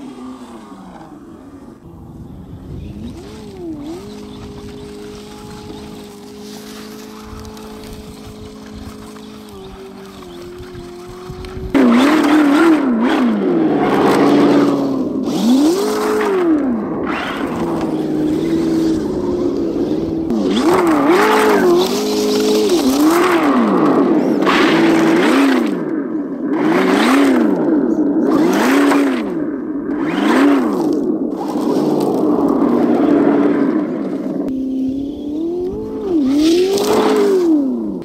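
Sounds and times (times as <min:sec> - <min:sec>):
simulated engine revving from speaker: 0:00.0 - 0:38.0
tyres spraying snow and grit: 0:02.7 - 0:25.8, 0:26.5 - 0:38.0.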